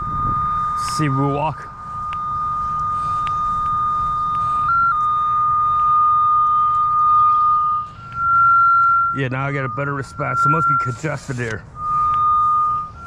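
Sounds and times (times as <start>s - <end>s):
cable locator tracing tone: 0.0s - 13.0s.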